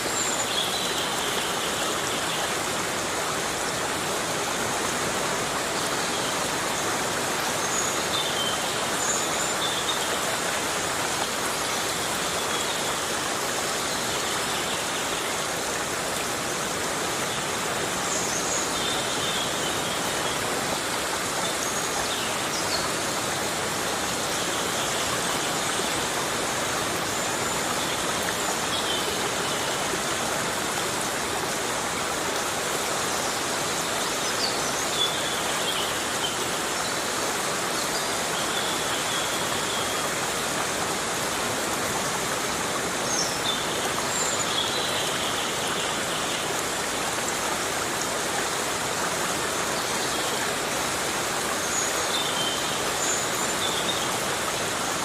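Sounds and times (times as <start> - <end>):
heavy rain in a forest: 0.0 - 55.0.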